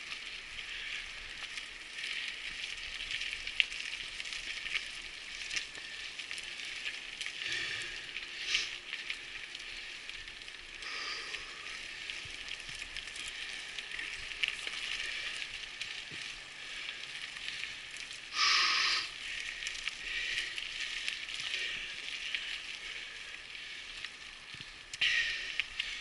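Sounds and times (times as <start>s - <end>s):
bike tyres hissing on trail: 0.0s - 26.0s.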